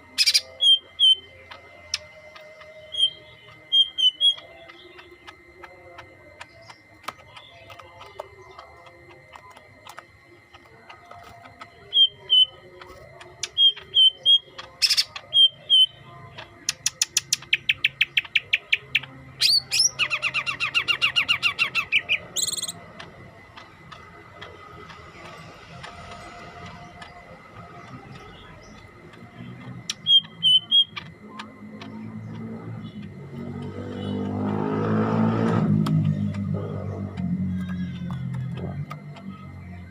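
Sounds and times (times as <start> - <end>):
bird chirping and trilling: 0.0 - 39.9
faint steady high tone: 0.0 - 39.9.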